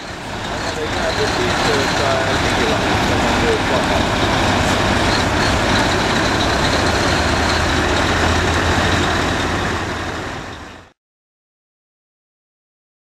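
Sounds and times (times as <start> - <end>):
truck diesel engine running: 0.0 - 10.9.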